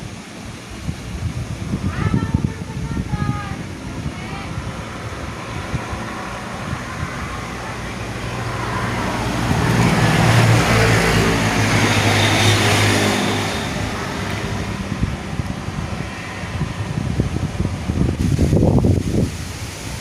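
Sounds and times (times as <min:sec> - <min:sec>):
vehicle passing by: 0:03.1 - 0:20.0.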